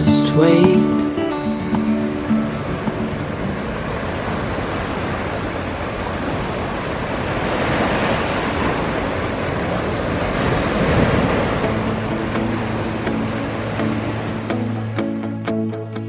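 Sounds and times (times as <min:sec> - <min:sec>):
ocean surf breaking on rocks: 0:00.0 - 0:15.3.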